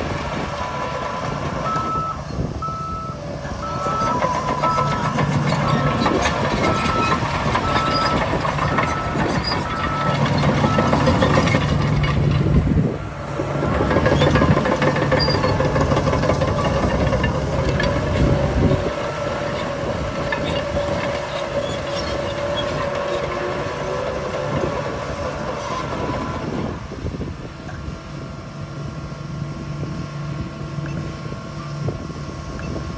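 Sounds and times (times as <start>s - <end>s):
heavy diesel machinery engine: 0.0s - 32.9s
truck reversing beeper: 0.2s - 26.8s.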